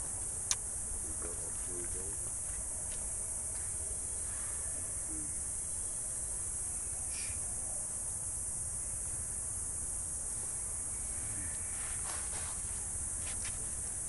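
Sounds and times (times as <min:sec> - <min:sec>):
high-pitched outdoor hiss: 0:00.0 - 0:14.0.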